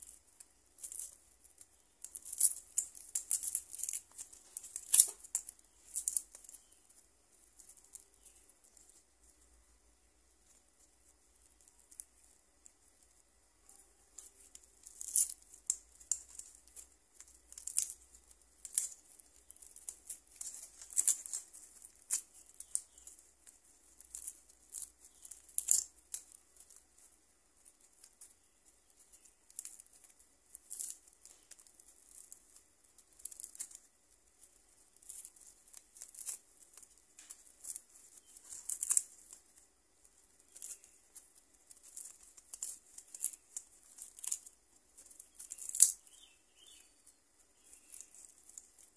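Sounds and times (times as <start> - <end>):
tendon tearing rasps: 0.0 - 48.9.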